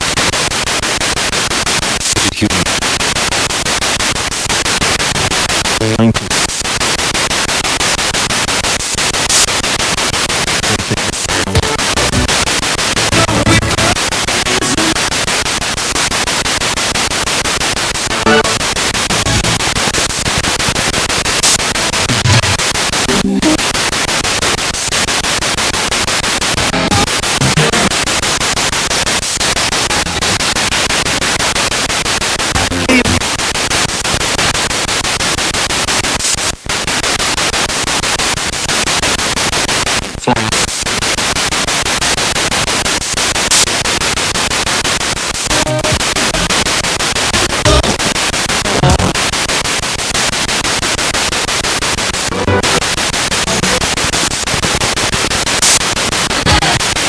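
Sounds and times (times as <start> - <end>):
radio static hiss: 0.0 - 57.0
radio broadcast fragments: 0.1 - 57.0.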